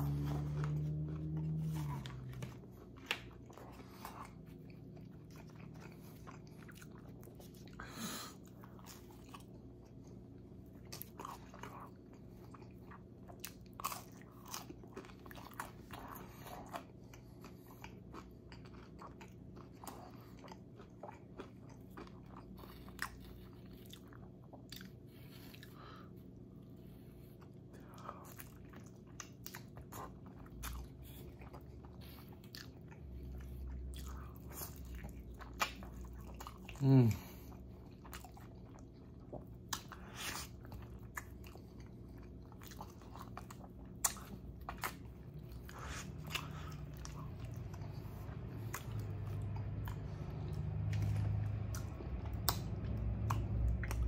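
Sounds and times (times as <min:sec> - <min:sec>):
crunching and wet chewing: 0:00.0 - 0:54.0
steady low hum: 0:00.0 - 0:54.0.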